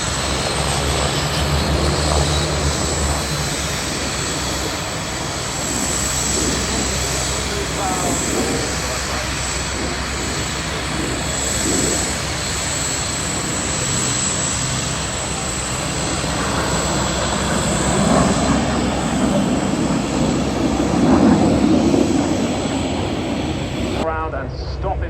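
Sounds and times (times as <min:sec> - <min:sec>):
jet engine noise overhead: 0:00.0 - 0:25.0.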